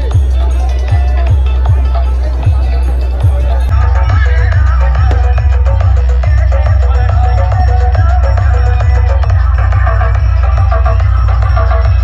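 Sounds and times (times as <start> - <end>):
loud dance music with heavy bass: 0.0 - 12.0.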